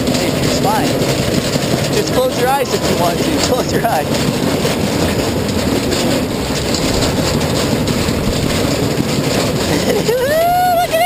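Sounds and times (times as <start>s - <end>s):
roller coaster chain lift rattling: 0.0s - 11.0s.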